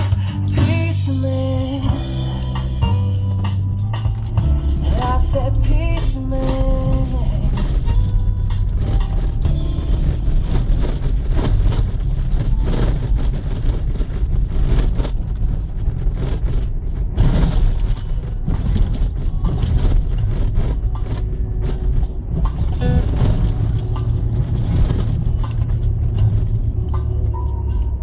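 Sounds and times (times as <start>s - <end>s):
vehicle engine rumble: 0.0s - 28.0s
vehicle knocks and rattles: 2.8s - 28.0s.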